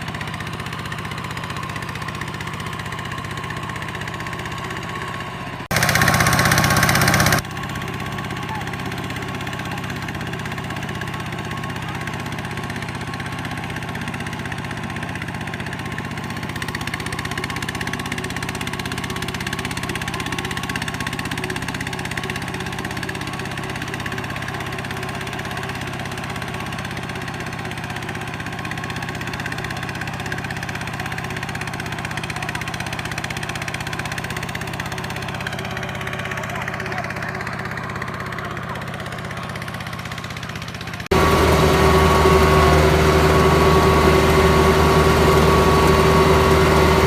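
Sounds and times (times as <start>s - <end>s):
harvester engine running: 0.0s - 47.0s.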